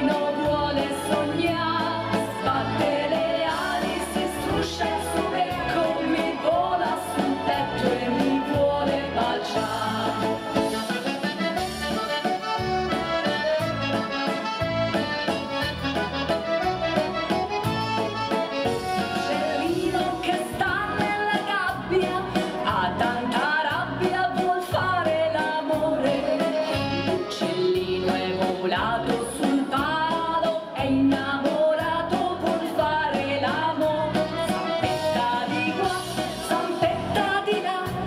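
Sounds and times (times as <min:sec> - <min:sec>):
accordion melody: 0:00.0 - 0:24.5, 0:25.1 - 0:30.5, 0:32.1 - 0:38.0.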